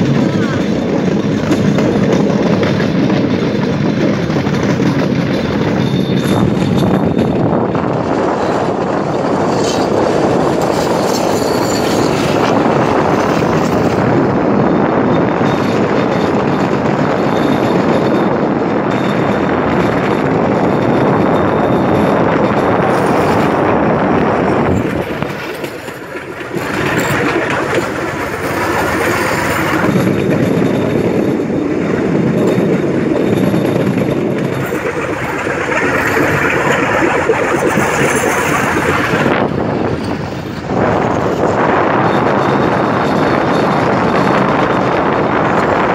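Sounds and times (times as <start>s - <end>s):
small train engine: 0.0s - 45.9s
wheels on rail track: 0.0s - 45.9s.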